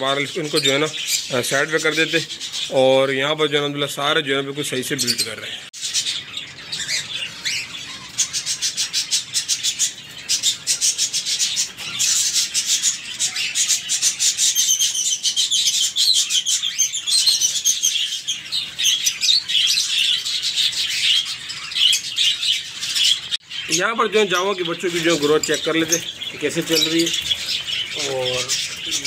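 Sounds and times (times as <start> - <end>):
budgerigars chattering and chirping: 0.0 - 29.0.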